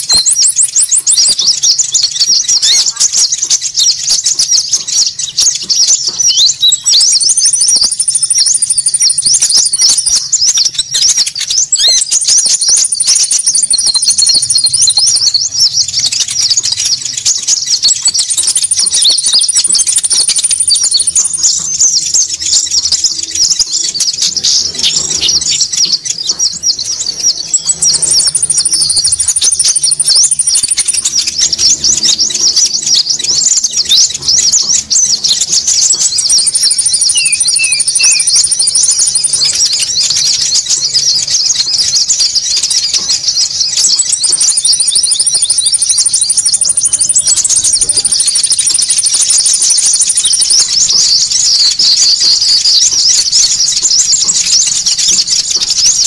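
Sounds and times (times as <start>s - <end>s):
chatter of high-pitched chirps: 0.0s - 56.0s
very high bird trill: 0.0s - 56.0s.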